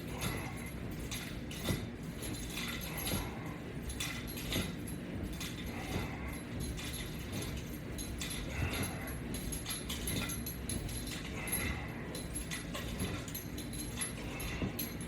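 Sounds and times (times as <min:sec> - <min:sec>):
metal straps clinking and rattling: 0:00.0 - 0:15.0.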